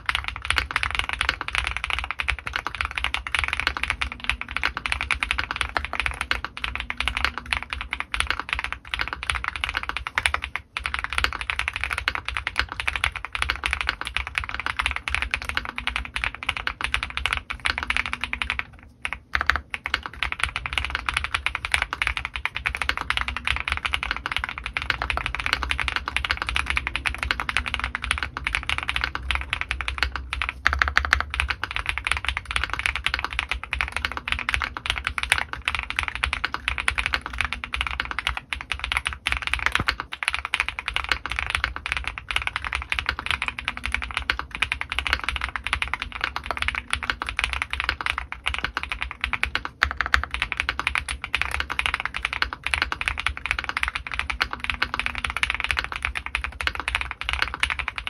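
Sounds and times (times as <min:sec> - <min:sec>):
typing on mechanical keyboard: 0:00.0 - 0:58.0.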